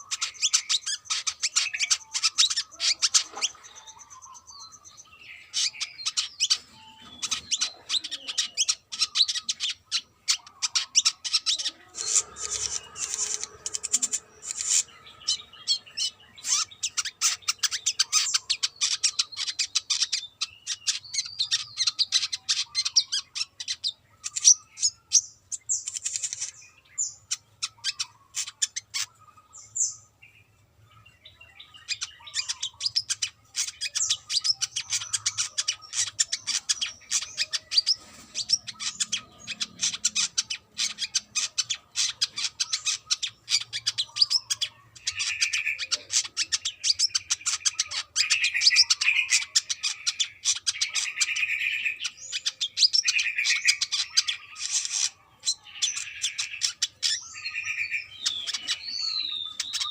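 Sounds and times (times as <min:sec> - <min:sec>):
bird singing chirps and trills: 0:00.0 - 0:59.9
lower repeated bird notes: 0:00.0 - 0:59.9.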